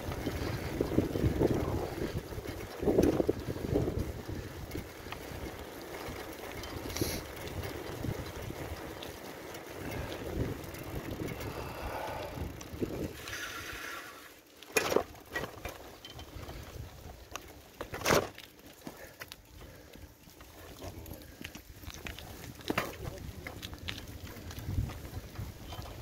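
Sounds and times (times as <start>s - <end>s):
bicycle tyres rattling on paving: 0.0s - 26.0s.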